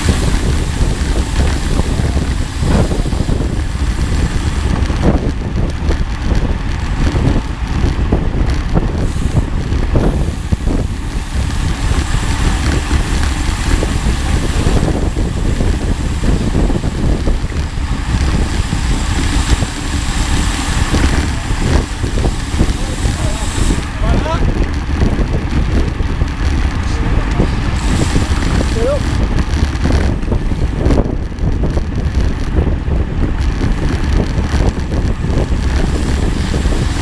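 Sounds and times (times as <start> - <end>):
steady low rumble: 0.0 - 37.0
wind buffeting microphone: 0.0 - 37.0.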